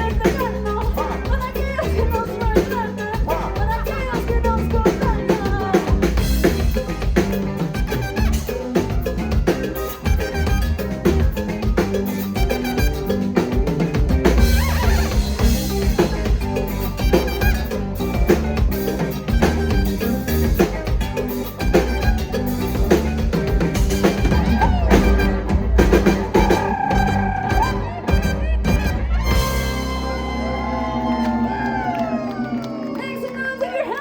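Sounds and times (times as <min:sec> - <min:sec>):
latin pop band instrumental: 0:00.0 - 0:34.0.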